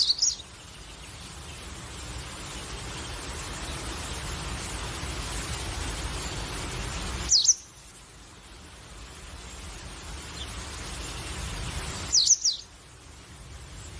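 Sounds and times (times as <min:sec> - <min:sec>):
steady hiss: 0:00.0 - 0:13.9.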